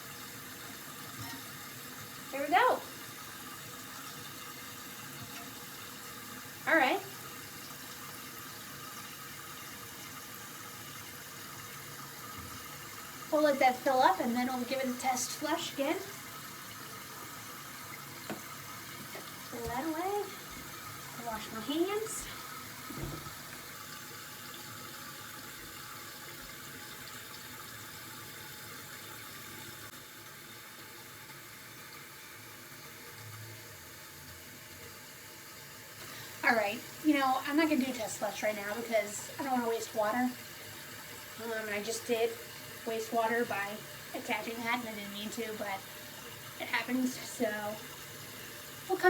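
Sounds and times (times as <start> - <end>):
water hissing into toilet tank: 0.0 - 49.0.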